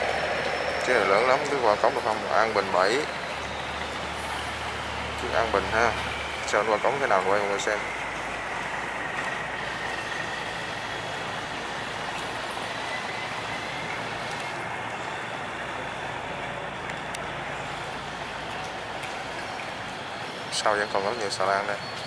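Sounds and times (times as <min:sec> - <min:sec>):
boat diesel engines droning: 0:00.0 - 0:22.0.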